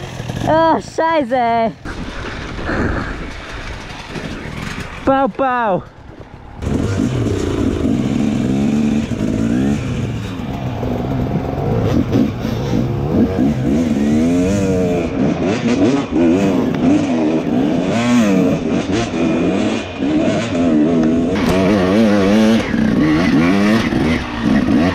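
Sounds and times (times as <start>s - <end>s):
dirt bike engine revving: 3.1s - 24.9s.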